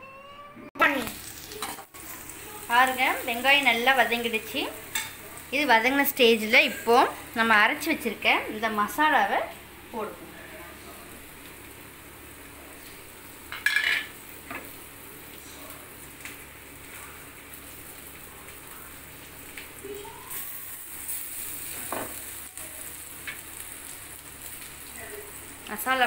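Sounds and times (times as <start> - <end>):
onions sizzling in oil: 0.8 - 26.0.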